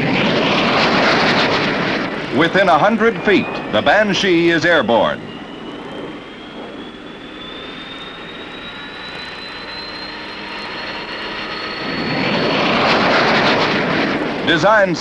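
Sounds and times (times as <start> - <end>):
jet engine whine: 0.0 - 15.0
rushing jet noise: 0.0 - 15.0.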